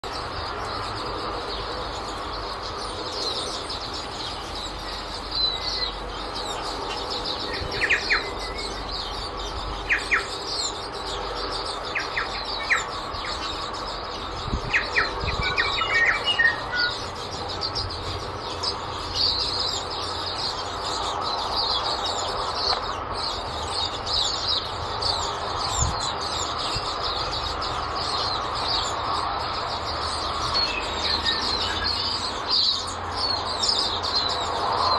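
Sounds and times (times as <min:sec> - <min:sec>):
birds twittering: 0:00.0 - 0:34.9.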